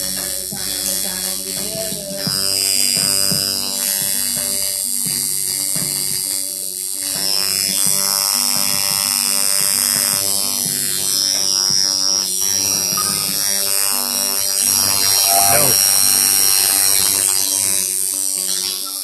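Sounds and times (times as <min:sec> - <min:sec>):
hip-hop music: 0:00.0 - 0:19.0
tattoo machine buzzing: 0:00.0 - 0:19.0.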